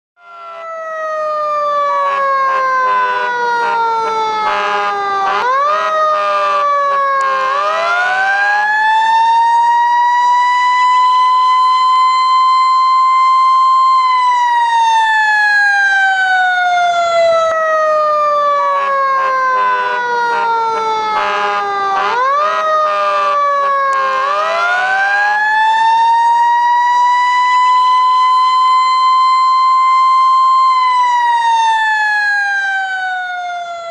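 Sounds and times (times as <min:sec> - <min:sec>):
fire engine siren wailing: 0:00.2 - 0:33.9.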